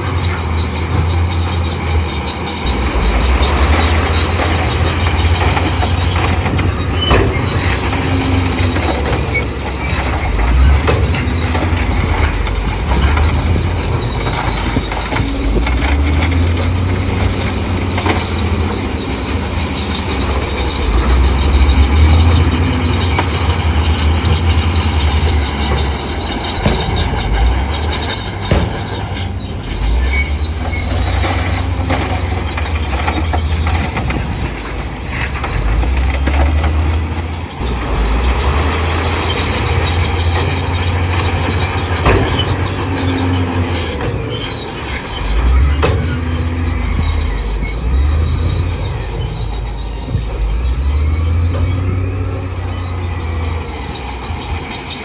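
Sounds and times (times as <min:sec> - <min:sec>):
bulldozer diesel engine rumble: 0:00.0 - 0:55.0
steel tracks squealing and clanking: 0:00.0 - 0:55.0.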